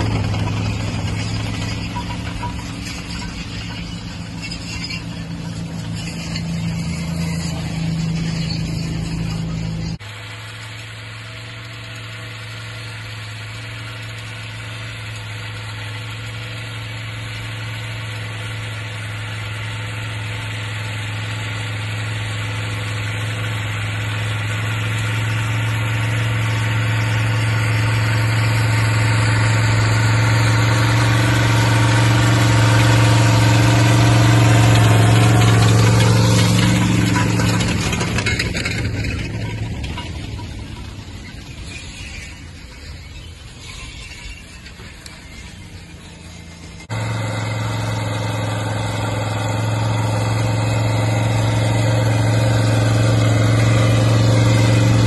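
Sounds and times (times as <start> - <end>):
tractor engine passing by: 0.0 - 55.0.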